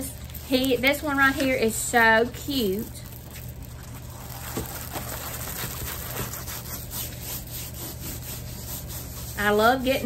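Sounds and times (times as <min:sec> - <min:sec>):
canvas rustling and rubbing: 0:00.0 - 0:10.0.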